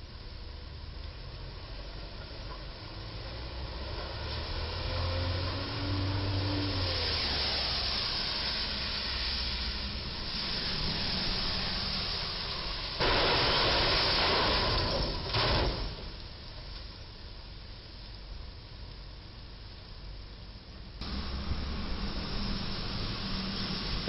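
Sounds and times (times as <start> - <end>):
low engine hum: 0.0 - 13.0, 16.6 - 24.0
tyres on wet pavement: 0.0 - 24.0.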